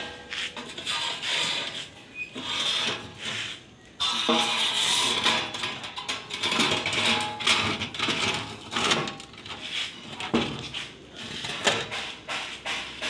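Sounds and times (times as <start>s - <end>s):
metal rods clinking and sliding: 0.0s - 13.0s.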